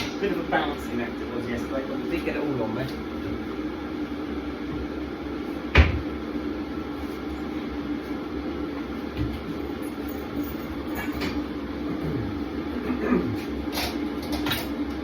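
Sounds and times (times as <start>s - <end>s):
electric kettle rumbling: 0.0s - 15.0s.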